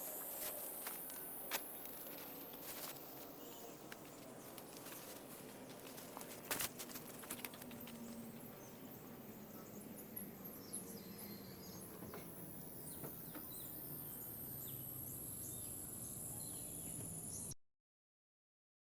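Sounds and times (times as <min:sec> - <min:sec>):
high insect drone: 0:00.0 - 0:17.6.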